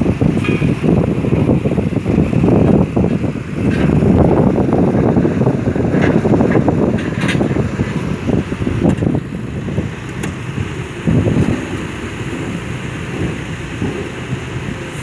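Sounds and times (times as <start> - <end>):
excavator diesel engine running: 0.0 - 15.0
wind rumbling on microphone: 0.0 - 15.0.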